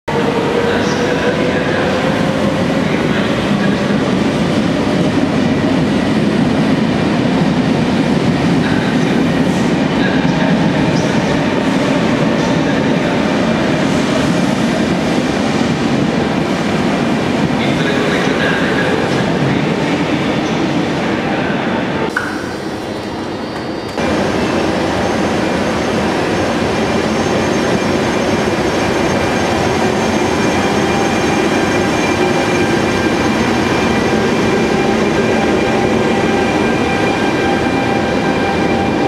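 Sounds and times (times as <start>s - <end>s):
train wheels rumbling on track: 0.1s - 39.0s.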